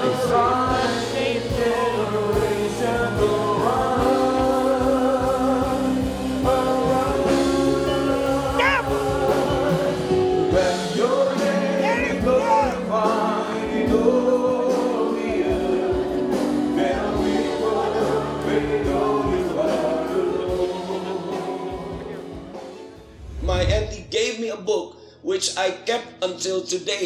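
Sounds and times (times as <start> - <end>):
band with steady beat: 0.0 - 22.9
choir singing gospel: 0.0 - 24.0.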